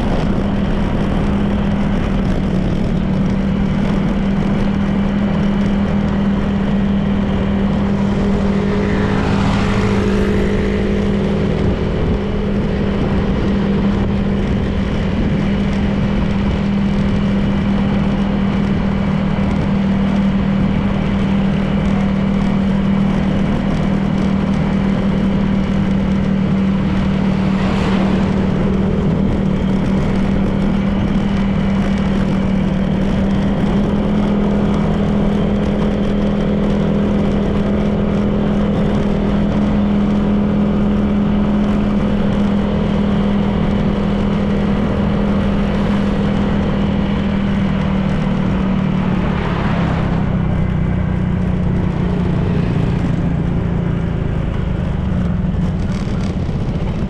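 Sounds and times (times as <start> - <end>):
road noise: 0.0 - 57.0
scooter engine running: 0.0 - 57.0.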